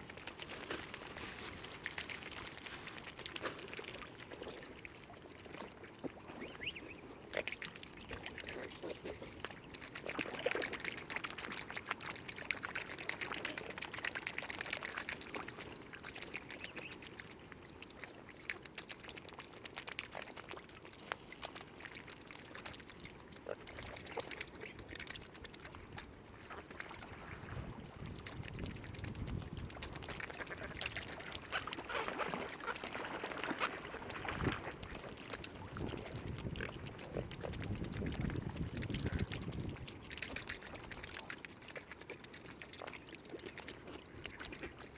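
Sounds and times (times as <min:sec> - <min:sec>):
small splashes and clicks: 0:00.0 - 0:44.9
water noise: 0:00.0 - 0:44.9.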